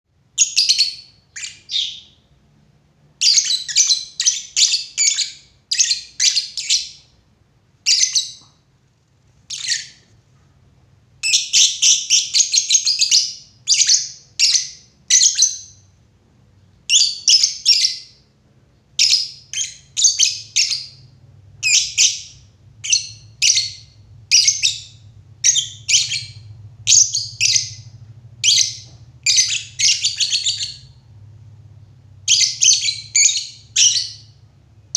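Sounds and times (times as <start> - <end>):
birds chirping: 0.4 - 2.4, 3.2 - 7.2, 7.8 - 8.6, 9.4 - 10.2, 11.2 - 16.0, 16.8 - 18.3, 19.0 - 34.9.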